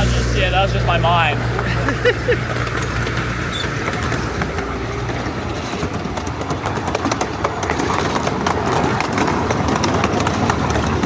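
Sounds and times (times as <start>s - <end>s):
miniature steam train rolling: 0.0s - 11.0s
wheels clicking over rails: 0.0s - 11.0s.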